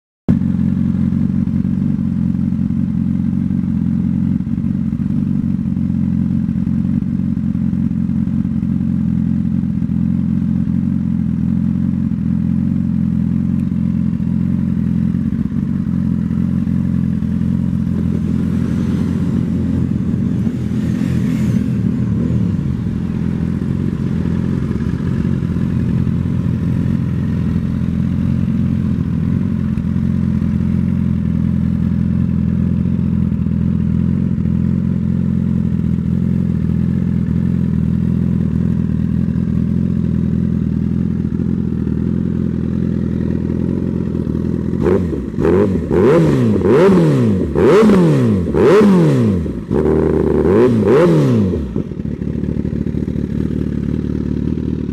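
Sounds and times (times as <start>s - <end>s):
motorcycle engine idling: 0.3s - 54.9s.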